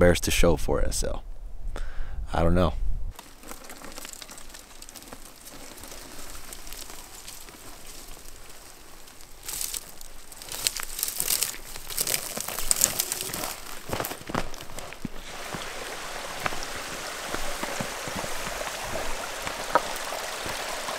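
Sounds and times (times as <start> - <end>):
brush rustling: 3.1 - 20.9
footsteps crunching through dry grass: 3.1 - 20.9.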